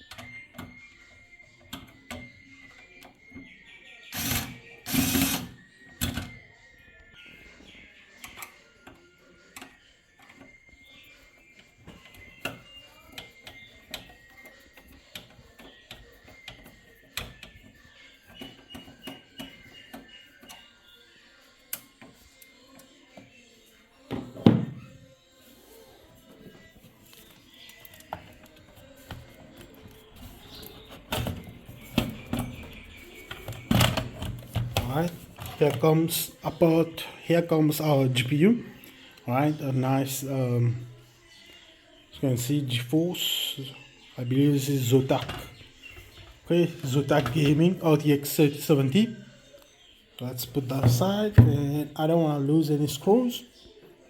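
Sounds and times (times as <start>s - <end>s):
quiet background music: 0.0s - 54.0s.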